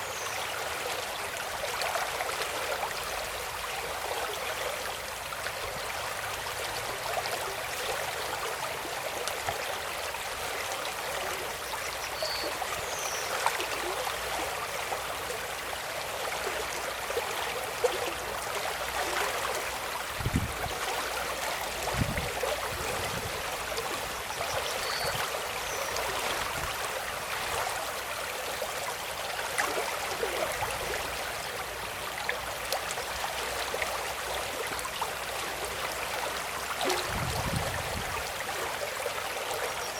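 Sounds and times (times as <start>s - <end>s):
stream flowing and splashing: 0.0s - 39.9s.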